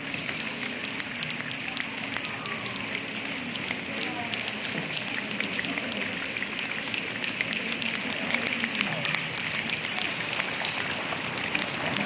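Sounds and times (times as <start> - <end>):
hands rubbing like rain: 0.0 - 12.0.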